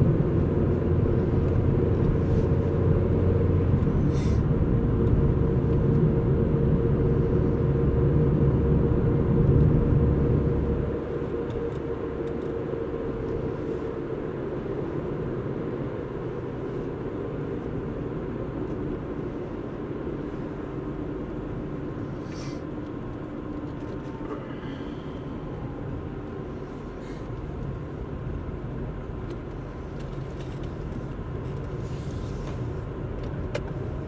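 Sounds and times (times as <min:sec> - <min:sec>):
car engine hum: 0:00.0 - 0:34.0
low road rumble: 0:00.0 - 0:34.0.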